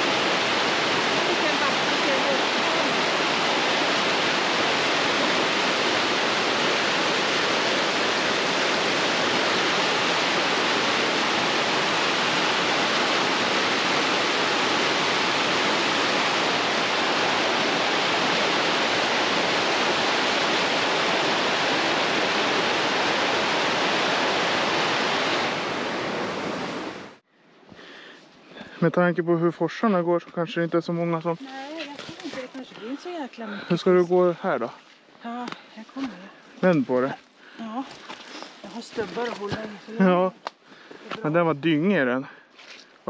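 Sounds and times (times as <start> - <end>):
rushing white water: 0.0 - 27.2, 28.6 - 40.3.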